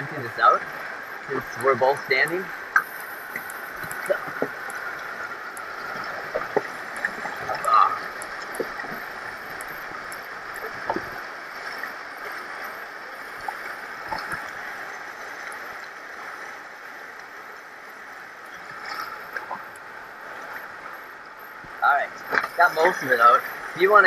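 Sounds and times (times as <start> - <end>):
water rushing past hull: 0.0 - 24.0.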